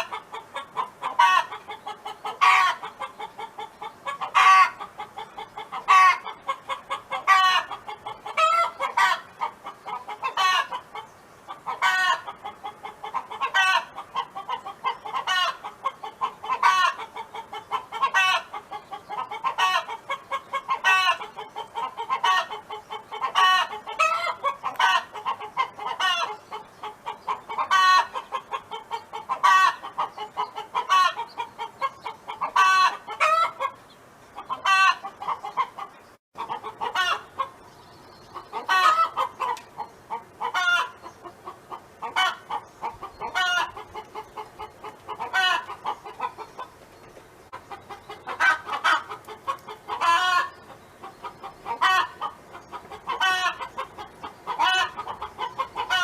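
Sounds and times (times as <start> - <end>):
hen clucking: 0.0 - 56.0.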